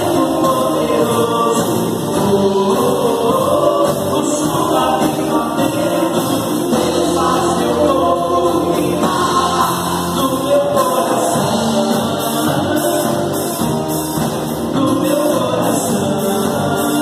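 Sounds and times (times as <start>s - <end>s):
instrumental accompaniment: 0.0s - 17.0s
voices singing together: 0.0s - 17.0s.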